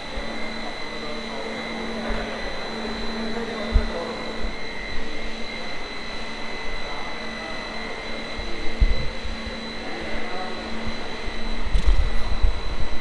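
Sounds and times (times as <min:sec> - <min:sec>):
mechanical hum with high whine: 0:00.0 - 0:13.0.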